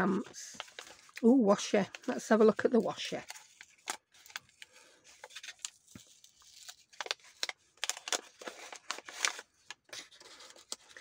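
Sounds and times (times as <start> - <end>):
paper packet crinkling: 0.0 - 11.0.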